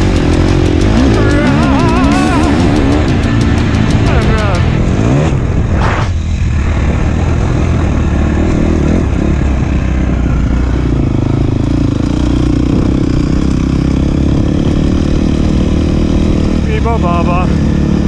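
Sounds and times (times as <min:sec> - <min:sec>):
motocross bike engine: 0:00.0 - 0:18.0.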